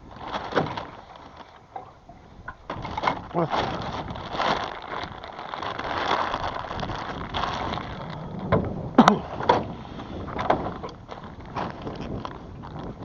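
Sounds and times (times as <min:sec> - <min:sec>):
water splashing around a boat: 0:00.0 - 0:13.0.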